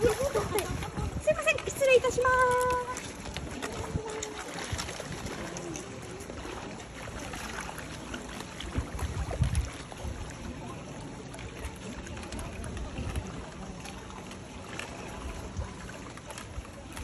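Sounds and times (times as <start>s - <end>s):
pool water sloshing and splashing: 0.0s - 17.0s.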